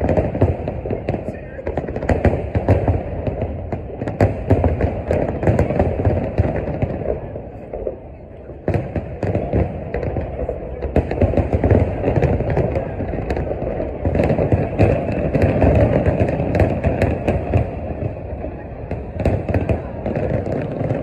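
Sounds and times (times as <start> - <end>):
continuous rumble: 0.0 - 21.0
fireworks booming and crackling: 0.0 - 21.0.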